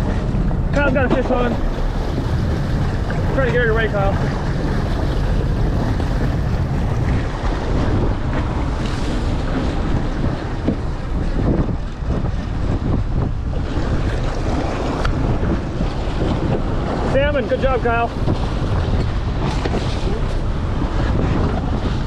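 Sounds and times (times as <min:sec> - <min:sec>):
water rushing along boat hull: 0:00.0 - 0:22.0
wind buffeting microphone: 0:00.0 - 0:22.0.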